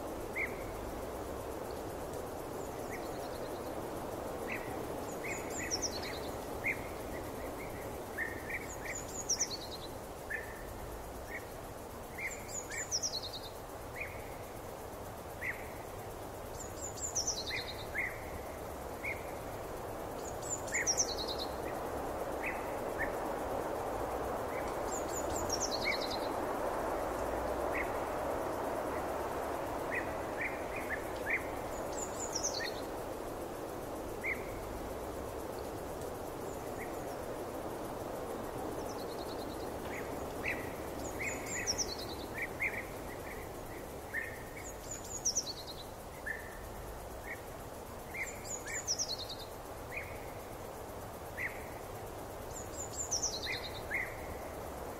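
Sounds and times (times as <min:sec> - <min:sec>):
forest background noise: 0:00.0 - 0:54.9.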